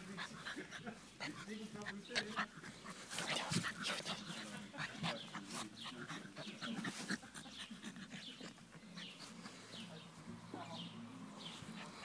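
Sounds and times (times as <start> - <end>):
puppy panting: 0.0 - 10.2, 11.4 - 12.0.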